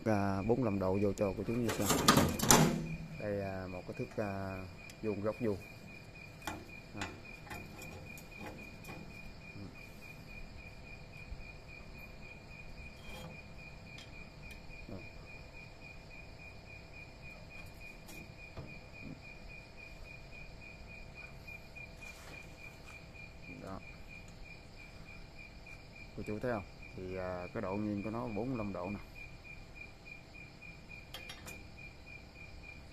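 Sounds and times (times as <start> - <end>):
cricket chirping: 0.0 - 32.9.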